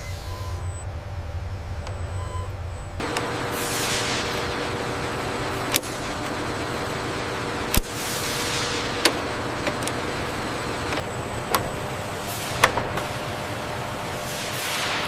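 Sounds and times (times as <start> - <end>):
industrial machinery hum: 0.0 - 15.0.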